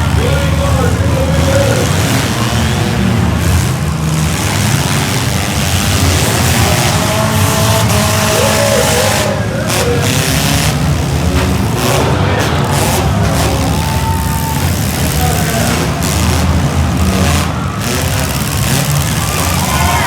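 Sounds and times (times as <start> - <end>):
car engines revving: 0.0 - 20.0
high-pitched squeals: 3.7 - 20.0.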